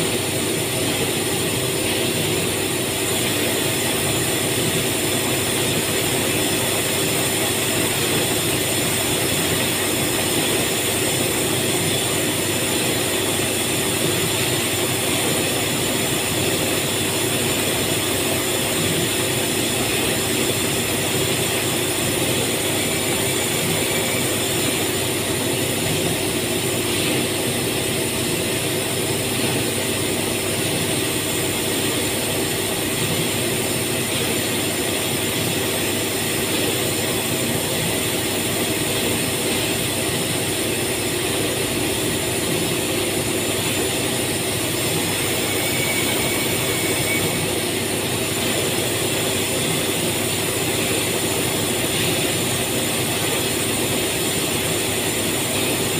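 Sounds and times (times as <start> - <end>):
factory machinery droning: 0.0 - 55.9.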